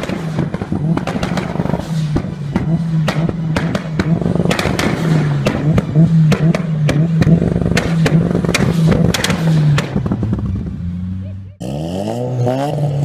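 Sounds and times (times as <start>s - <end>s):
exhaust pops and bangs: 0.0s - 10.7s
car engine at steady revs: 0.0s - 13.0s.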